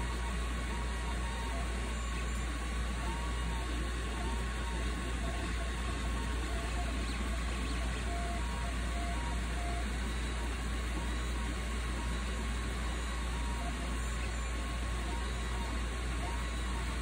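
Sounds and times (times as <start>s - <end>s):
cooling fans whirring: 0.0s - 17.0s.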